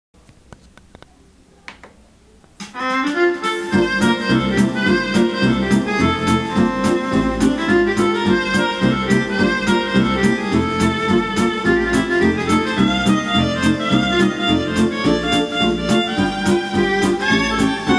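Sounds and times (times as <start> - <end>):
instrumental music: 2.6 - 17.9
steady beat: 2.6 - 17.9
bass line: 3.0 - 17.9.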